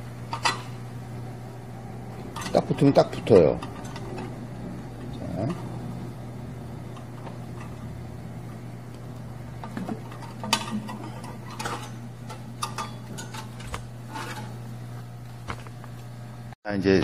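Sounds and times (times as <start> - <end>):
vacuum pump humming: 0.0 - 16.6.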